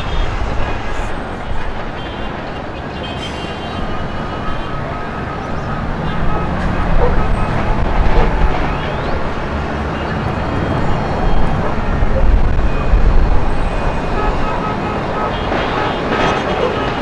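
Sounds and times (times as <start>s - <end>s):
people's voices: 0.0s - 17.0s
traffic noise: 0.0s - 17.0s.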